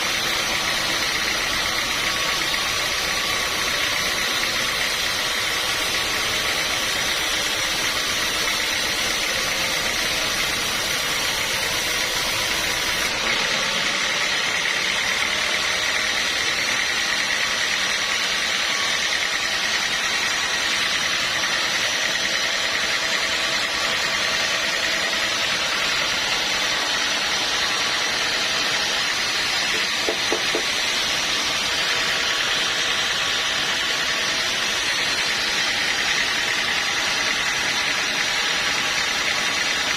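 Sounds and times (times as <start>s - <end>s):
sawmill machinery drone with whine: 0.0s - 39.9s.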